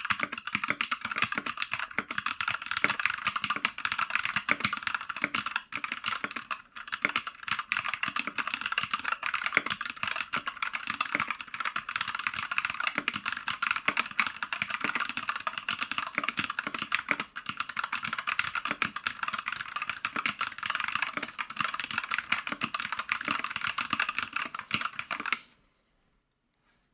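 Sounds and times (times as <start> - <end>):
mechanical keyboard typing: 0.0 - 25.5.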